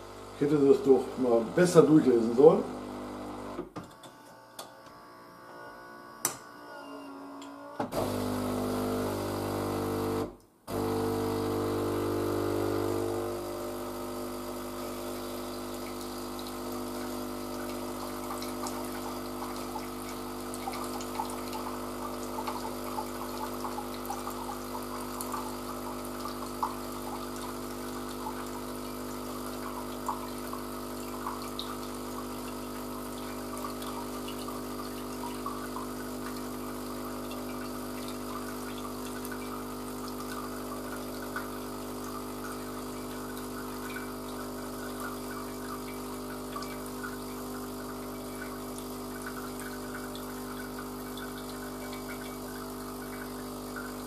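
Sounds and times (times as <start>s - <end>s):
coffee machine pump humming: 0.0s - 6.5s, 7.8s - 54.0s.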